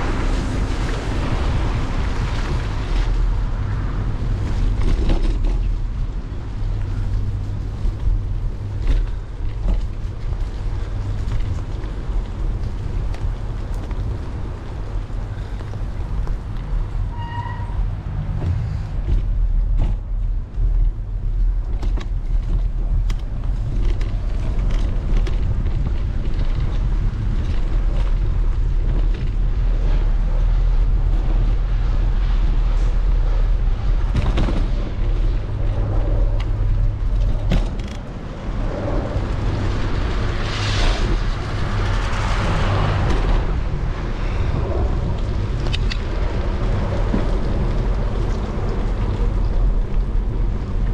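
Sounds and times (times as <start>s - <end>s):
bicycle tyres rolling: 0.0s - 50.9s
wind buffeting microphone: 0.0s - 50.9s
bike clicks and rattles: 4.2s - 17.1s, 18.4s - 31.5s, 32.7s - 50.9s.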